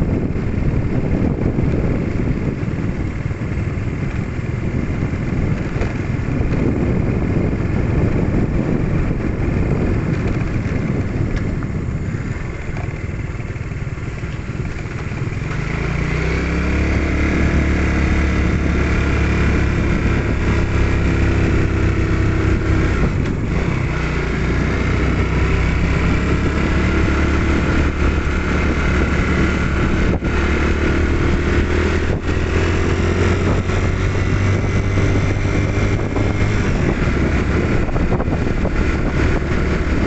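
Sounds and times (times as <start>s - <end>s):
motorcycle engine riding: 0.0s - 40.0s.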